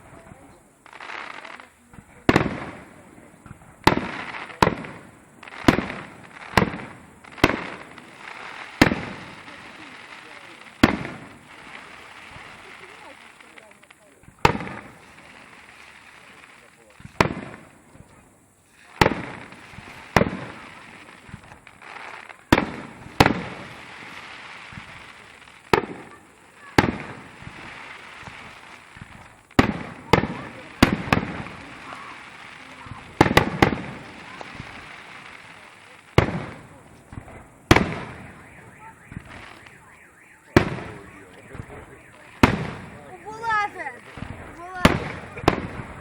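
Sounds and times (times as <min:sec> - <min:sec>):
firework shells bursting: 0:00.0 - 0:46.0.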